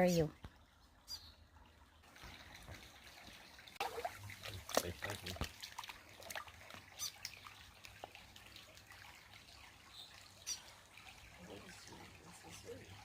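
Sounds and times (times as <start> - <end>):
creek water trickling: 0.0 - 13.0
sharp splashes: 2.0 - 13.0.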